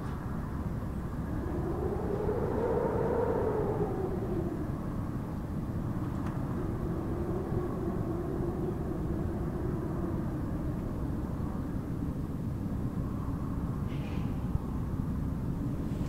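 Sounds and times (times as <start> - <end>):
wind howling: 0.0 - 16.0.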